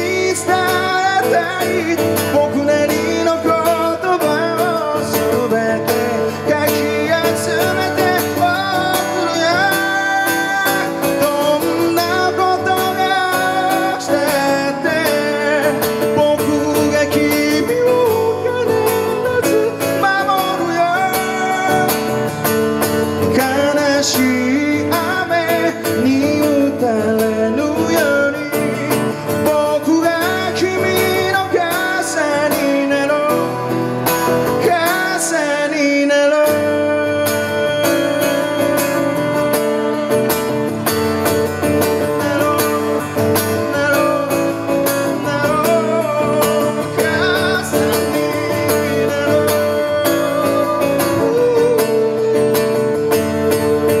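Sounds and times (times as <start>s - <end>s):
acoustic guitar strumming: 0.0s - 54.0s
man singing: 0.0s - 54.0s.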